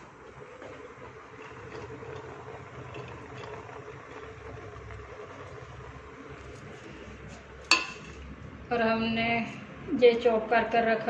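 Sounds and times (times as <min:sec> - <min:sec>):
gas burner rumble and hiss: 0:00.0 - 0:11.0.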